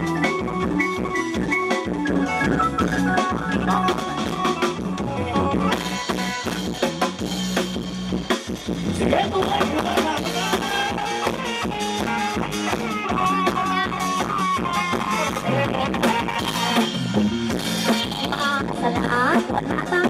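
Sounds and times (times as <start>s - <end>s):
band melody: 0.0s - 20.0s
drum kit steady beat: 0.0s - 20.0s.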